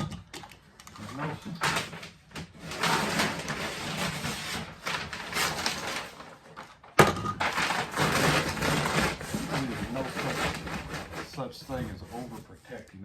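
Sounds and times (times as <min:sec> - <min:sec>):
cardboard rustling and scraping: 0:01.0 - 0:13.0.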